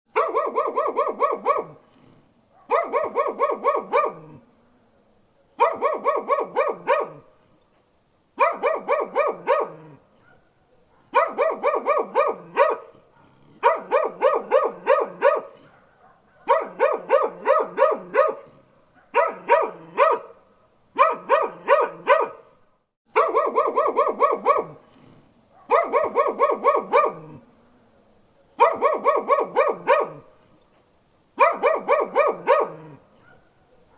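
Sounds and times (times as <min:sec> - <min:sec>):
dog barking: 0:00.1 - 0:01.8, 0:02.5 - 0:04.4, 0:05.3 - 0:07.3, 0:08.4 - 0:24.9, 0:25.5 - 0:27.4, 0:28.3 - 0:30.3, 0:31.4 - 0:33.9.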